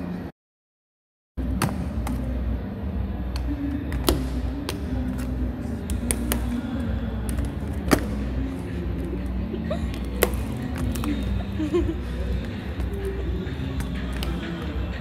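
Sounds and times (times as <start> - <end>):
low background noise: 1.4 - 15.0.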